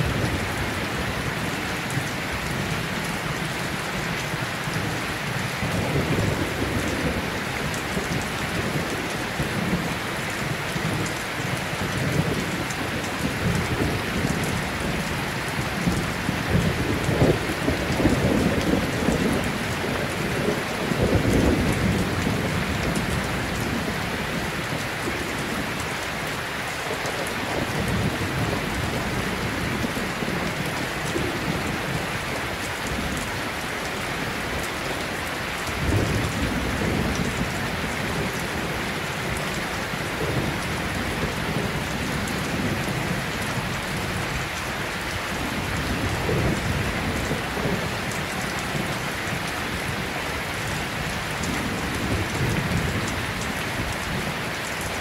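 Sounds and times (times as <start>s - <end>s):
low rumbles of thunder: 0.0s - 25.8s, 35.7s - 44.6s, 45.3s - 54.6s
steady rain: 0.0s - 55.0s.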